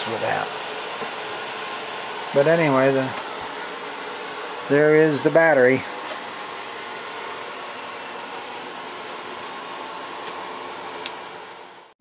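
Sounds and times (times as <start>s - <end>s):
steady rushing hiss: 0.0s - 11.9s.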